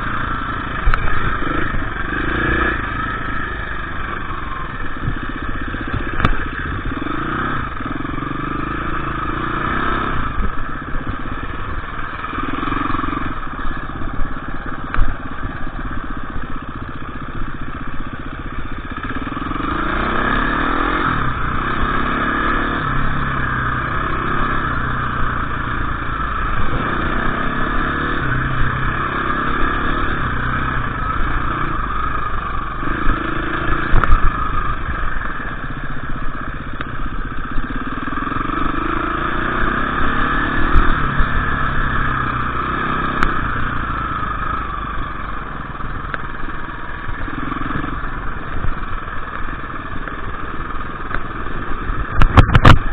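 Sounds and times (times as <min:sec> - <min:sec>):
dirt bike engine revving: 0:00.0 - 0:16.7, 0:17.6 - 0:52.9.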